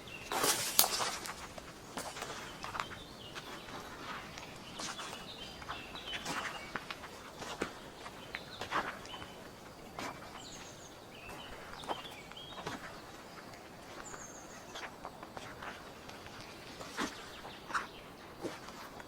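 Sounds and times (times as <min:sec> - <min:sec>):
small birds chirping: 0:00.0 - 0:19.0
footsteps crunching on forest floor: 0:00.1 - 0:19.0.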